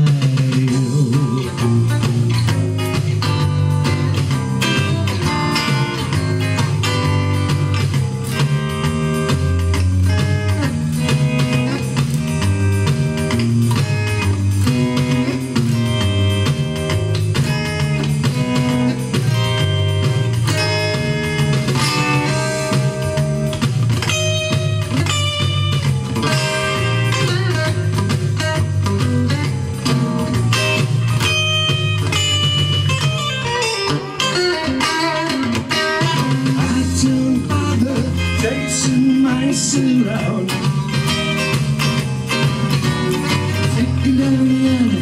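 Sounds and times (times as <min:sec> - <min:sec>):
bass line: 0:00.0 - 0:45.0
electric guitar lines: 0:00.0 - 0:45.0.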